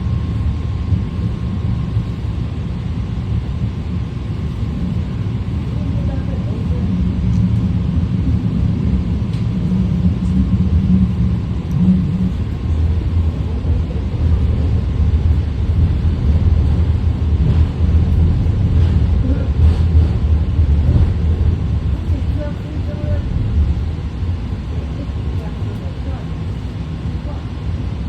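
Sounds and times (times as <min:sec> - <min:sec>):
train car low rumble: 0:00.0 - 0:28.0.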